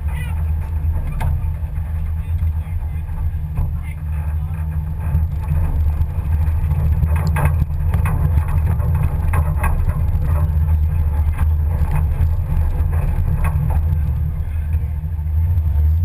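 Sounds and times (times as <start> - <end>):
truck engine droning: 0.0 - 16.0
truck knocks and rattles: 0.0 - 16.0.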